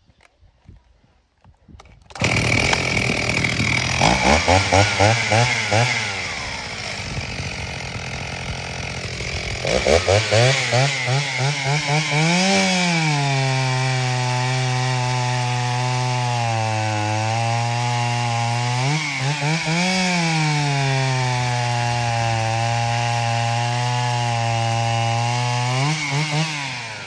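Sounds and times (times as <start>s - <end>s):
chainsaw engine revving: 2.1s - 27.0s.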